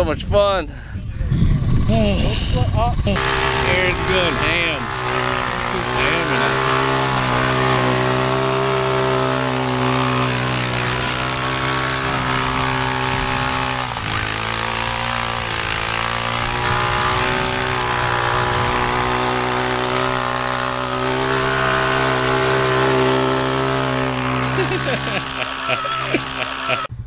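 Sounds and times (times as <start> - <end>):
atv engine running: 1.5 - 27.0.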